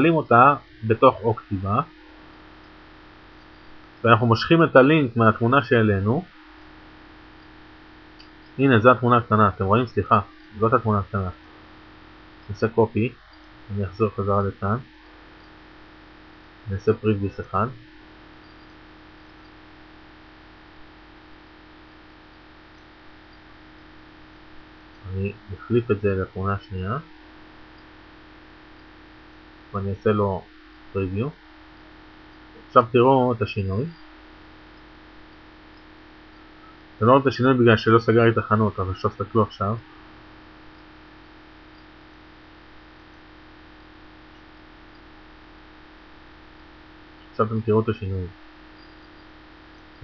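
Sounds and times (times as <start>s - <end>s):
electrical hum: 0.0s - 50.0s
microphone hiss: 0.0s - 50.0s.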